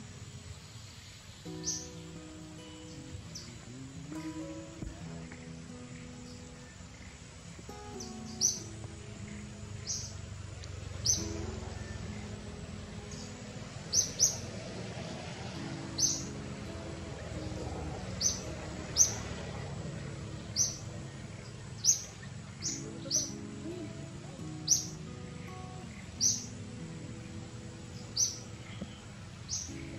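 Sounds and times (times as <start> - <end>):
steady background hiss: 0.0 - 29.9
bird chirping: 0.3 - 14.6, 15.9 - 16.5, 17.4 - 29.9.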